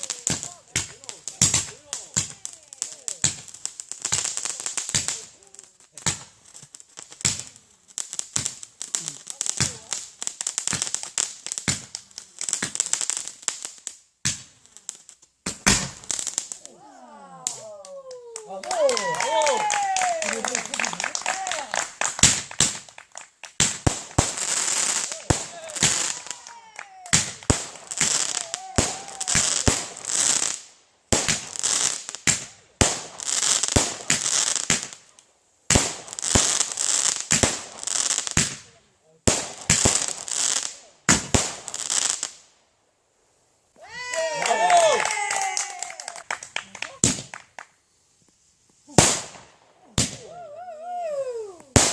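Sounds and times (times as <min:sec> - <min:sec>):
firework crackling: 0:00.0 - 0:42.6, 0:43.2 - 0:51.9
fireworks cracking: 0:00.0 - 0:42.6, 0:43.3 - 0:51.9.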